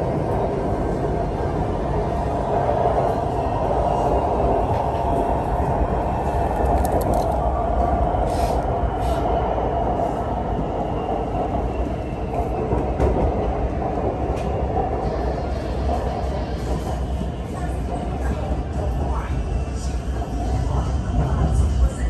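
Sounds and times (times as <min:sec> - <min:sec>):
train car rumbling on track: 0:00.0 - 0:22.0.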